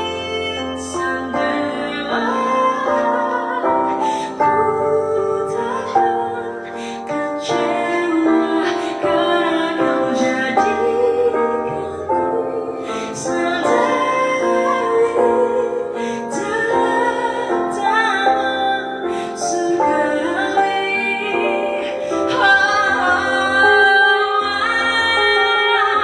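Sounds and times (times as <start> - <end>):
woman singing: 0.0 - 26.0.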